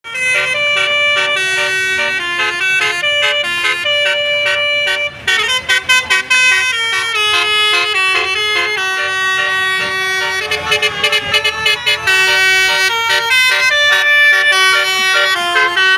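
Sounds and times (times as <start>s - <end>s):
multi-trumpet horn playing a tune: 0.0s - 15.9s.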